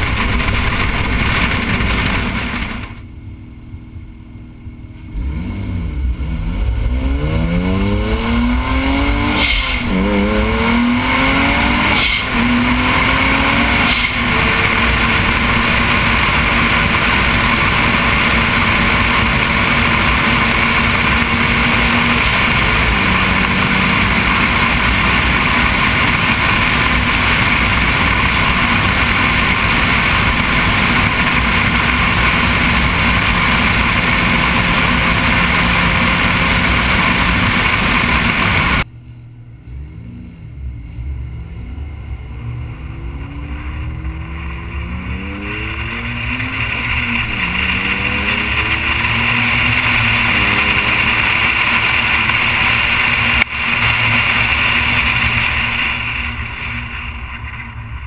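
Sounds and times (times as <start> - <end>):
car engine cruising: 0.0 - 58.0
wind and road rush: 0.0 - 58.0.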